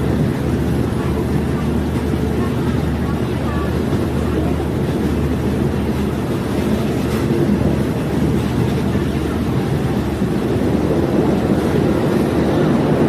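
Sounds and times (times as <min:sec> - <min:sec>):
train engine and wheels rumbling: 0:00.0 - 0:13.0.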